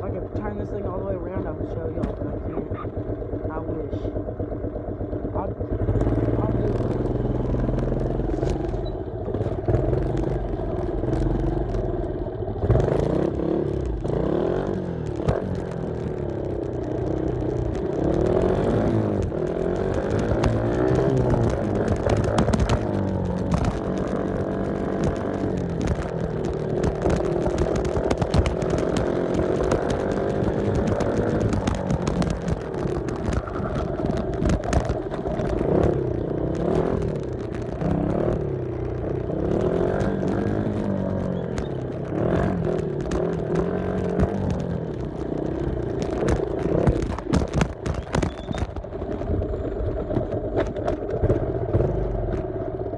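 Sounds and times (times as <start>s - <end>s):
dirt bike engine revving: 5.3s - 48.6s
bike clattering over rough ground: 5.9s - 52.9s.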